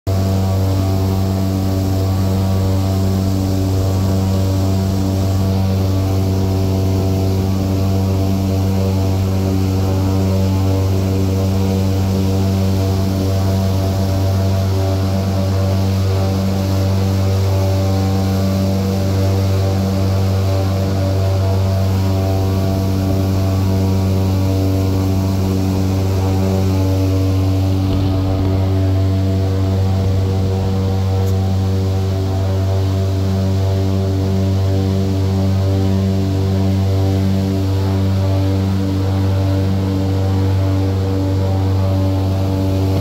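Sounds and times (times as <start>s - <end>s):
airboat engine and propeller drone: 0.1s - 43.0s.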